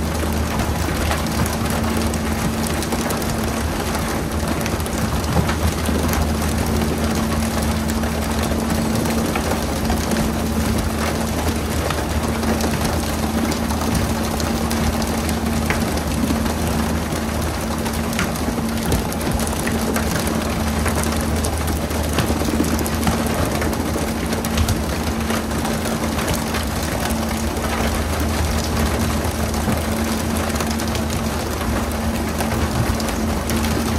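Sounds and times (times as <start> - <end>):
boat engine humming: 0.0 - 33.9
sea water splashing: 0.0 - 33.9.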